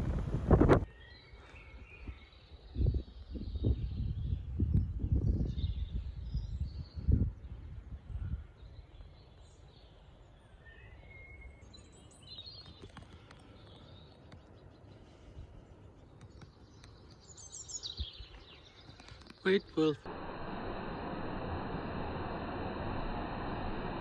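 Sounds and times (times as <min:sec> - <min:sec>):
small birds chirping: 0:00.8 - 0:20.1.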